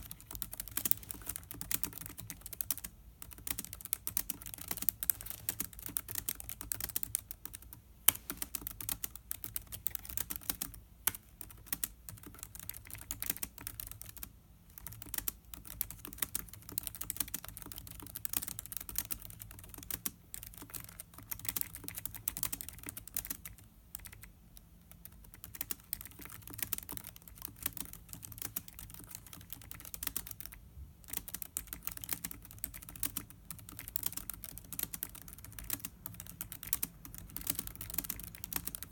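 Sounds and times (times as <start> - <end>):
laptop keyboard typing: 0.0 - 38.9.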